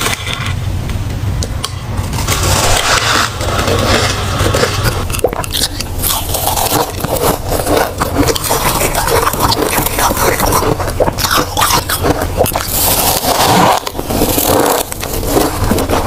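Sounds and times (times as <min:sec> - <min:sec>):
hand scraping frost: 0:02.3 - 0:05.1, 0:05.9 - 0:16.0
crunching of frost being chewed: 0:02.3 - 0:16.0.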